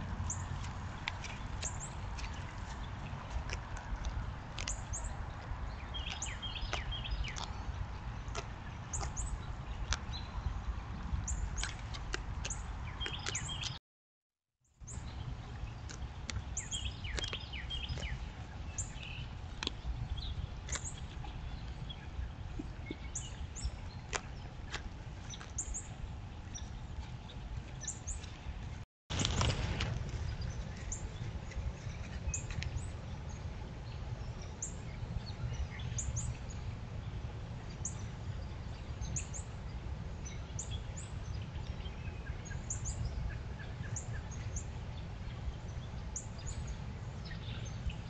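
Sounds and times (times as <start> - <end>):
steady low rumble: 0.0 - 13.8, 14.8 - 48.0
small birds chirping: 0.2 - 13.8, 14.7 - 48.0.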